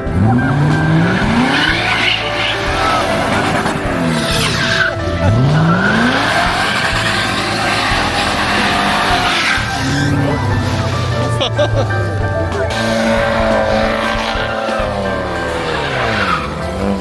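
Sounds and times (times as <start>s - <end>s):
background music: 0.0s - 17.0s
car engines revving: 0.0s - 17.0s.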